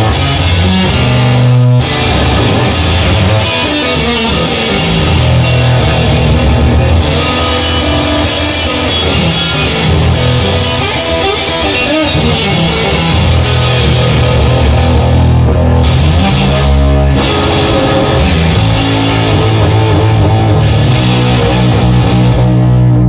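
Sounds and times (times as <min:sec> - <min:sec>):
rock music with guitar and drums: 0:00.0 - 0:23.0.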